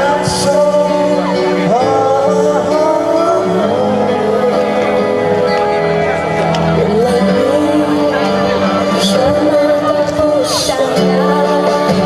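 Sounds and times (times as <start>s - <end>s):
pop music: 0.0s - 12.0s.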